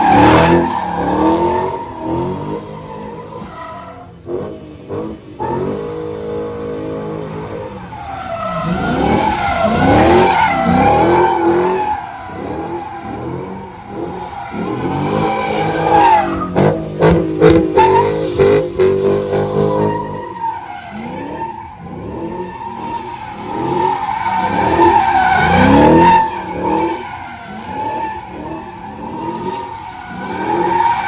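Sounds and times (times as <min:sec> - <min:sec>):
car engines revving: 0:00.0 - 0:31.0
tyres squealing and skidding: 0:00.0 - 0:31.0.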